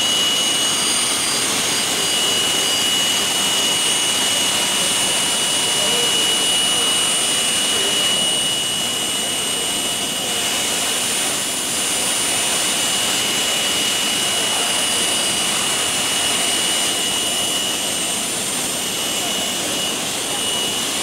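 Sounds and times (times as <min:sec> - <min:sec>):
cnc spindle whining: 0:00.0 - 0:21.0
cutter milling metal: 0:00.0 - 0:21.0.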